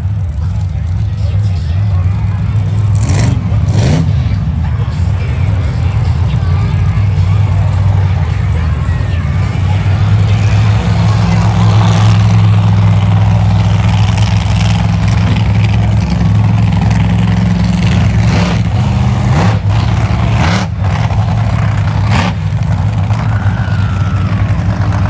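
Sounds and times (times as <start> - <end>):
truck engine droning and revving: 0.0 - 25.0.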